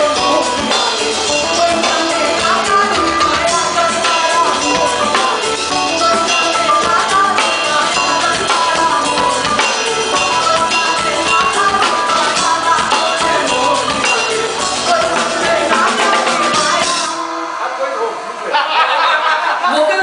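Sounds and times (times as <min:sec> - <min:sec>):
woman singing: 0:00.0 - 0:17.5
drum kit with cymbals: 0:00.0 - 0:18.2.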